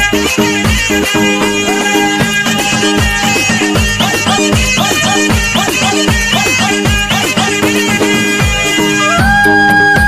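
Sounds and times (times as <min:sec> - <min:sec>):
folk drum beat: 0:00.0 - 0:10.0
sustained melody line: 0:00.0 - 0:10.0.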